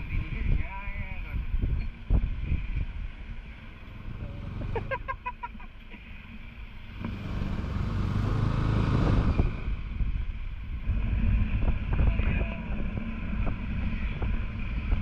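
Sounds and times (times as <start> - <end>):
wind noise on microphone: 0.0 - 5.0, 6.9 - 15.0.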